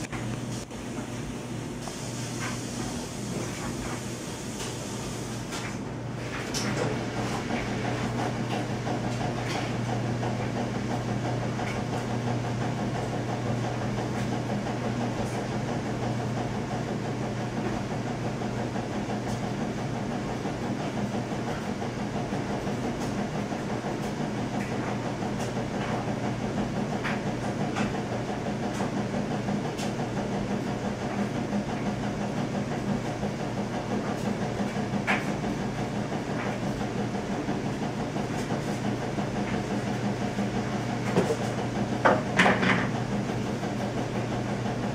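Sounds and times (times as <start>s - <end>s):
electrical hum: 0.0s - 44.9s.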